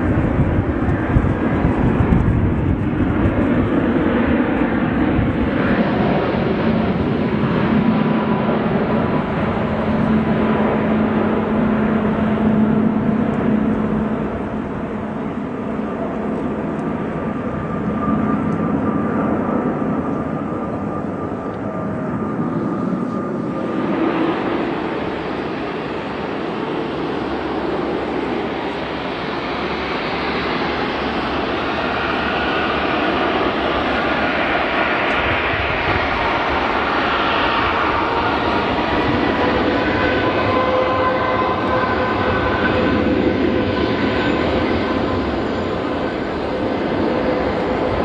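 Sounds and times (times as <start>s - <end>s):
jet engines in flight: 0.0s - 48.0s.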